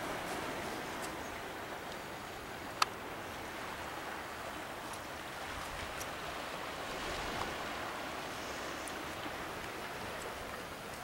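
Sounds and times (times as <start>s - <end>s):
surf washing on rocky shore: 0.0s - 11.0s.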